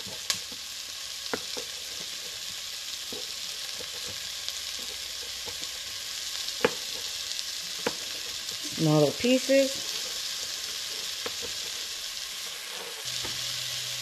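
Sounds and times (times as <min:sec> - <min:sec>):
onion and barley sizzling in oil: 0:00.0 - 0:14.0.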